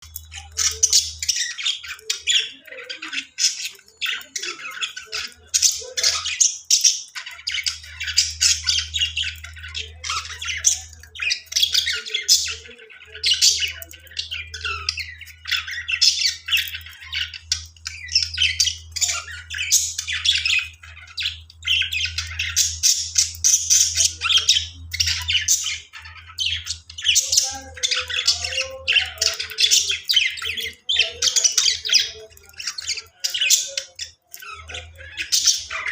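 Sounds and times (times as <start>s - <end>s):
budgies chattering and squawking: 0.0s - 35.9s.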